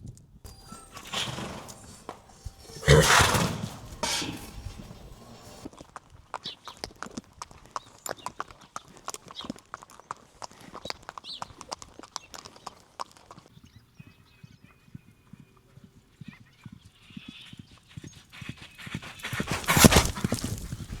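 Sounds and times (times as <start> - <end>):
horse hooves clip-clopping: 0.5 - 13.5, 17.1 - 21.0.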